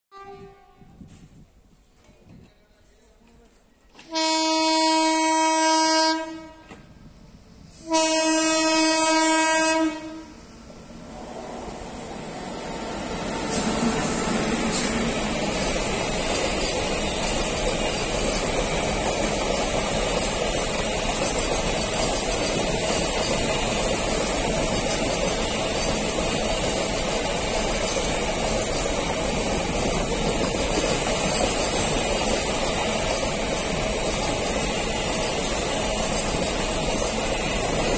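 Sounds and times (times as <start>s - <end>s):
freight train wheels rumbling: 0.3s - 37.9s.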